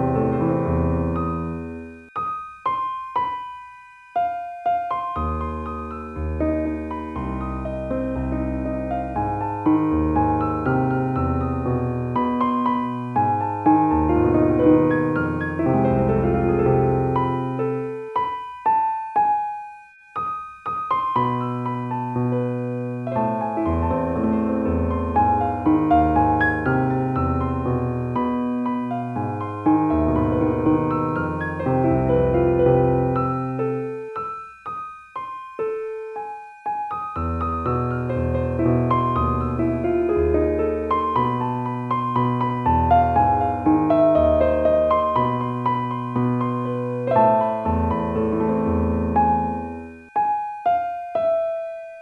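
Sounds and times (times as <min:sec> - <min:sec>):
slow relaxing piano music: 0:00.0 - 0:52.0.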